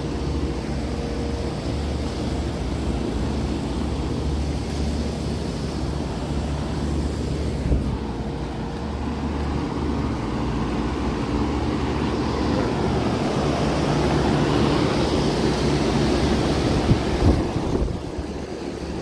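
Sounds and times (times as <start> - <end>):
fans whooshing: 0.0 - 19.0
low compressor hum: 0.0 - 19.0.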